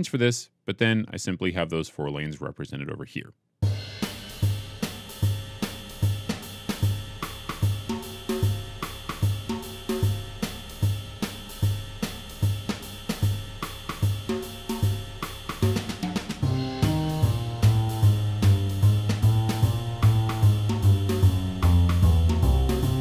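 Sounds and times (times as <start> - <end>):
drum-kit groove: 3.6 - 23.0.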